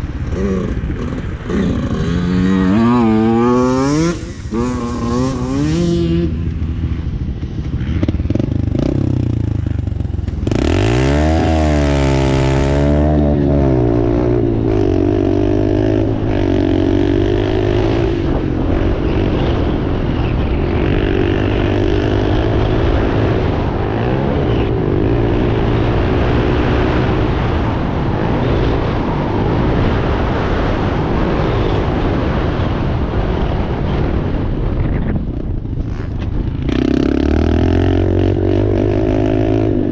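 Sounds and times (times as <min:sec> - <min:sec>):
dirt bike engine revving: 0:00.0 - 0:33.1, 0:35.9 - 0:39.9.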